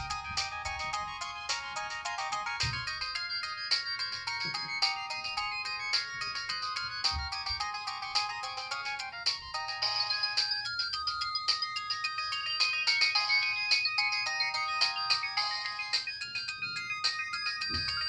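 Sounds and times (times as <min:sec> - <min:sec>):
synthesized ringtone melody: 0:00.0 - 0:18.0.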